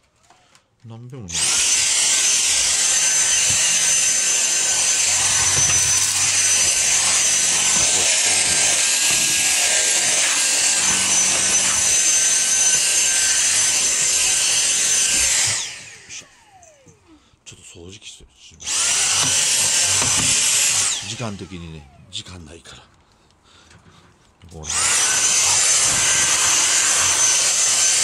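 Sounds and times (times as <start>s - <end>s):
vacuum cleaner motor whine: 1.3s - 17.1s, 18.6s - 22.2s, 24.6s - 28.0s.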